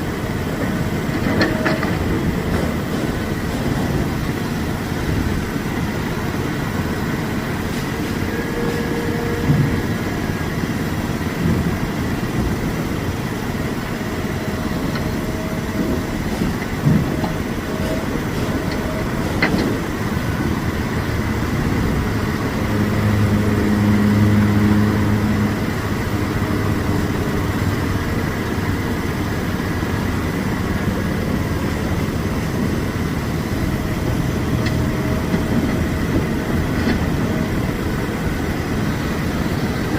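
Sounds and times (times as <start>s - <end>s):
diesel trucks rumbling: 0.0s - 39.9s.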